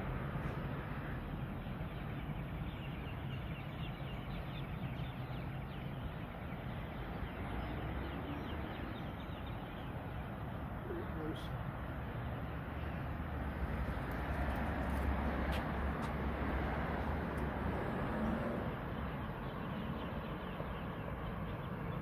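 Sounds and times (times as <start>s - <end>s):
birds chirping: 1.0s - 22.0s.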